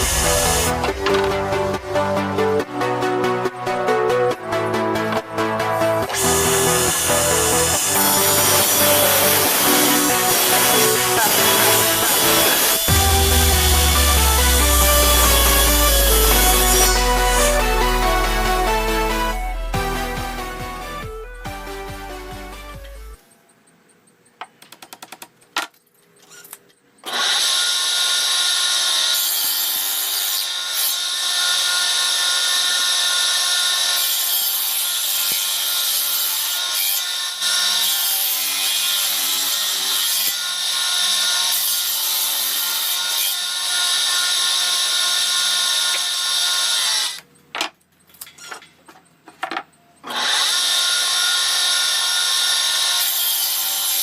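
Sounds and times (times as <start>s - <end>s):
power tool cutting wood: 0.0s - 22.7s, 27.0s - 47.2s, 50.0s - 54.0s.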